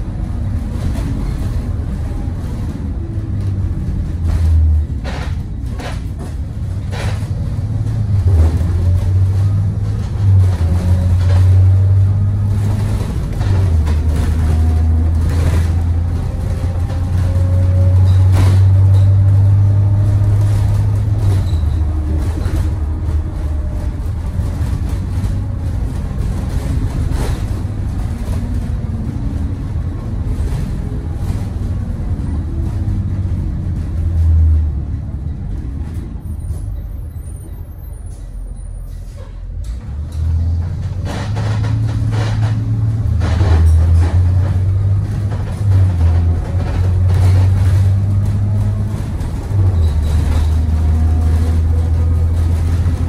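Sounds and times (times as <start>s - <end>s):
bus engine droning: 0.0s - 53.0s
road noise: 0.0s - 53.0s.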